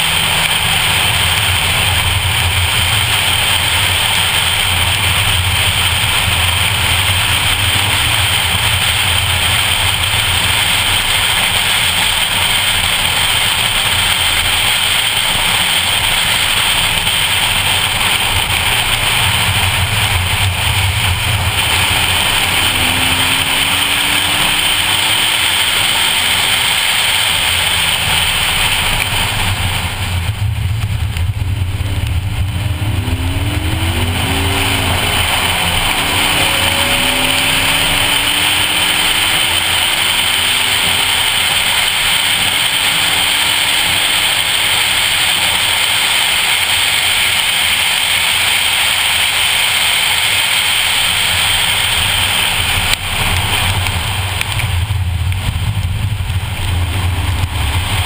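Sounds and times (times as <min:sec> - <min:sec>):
car engine accelerating: 0:00.0 - 0:58.0
rain: 0:00.0 - 0:58.0
wind: 0:00.0 - 0:58.0.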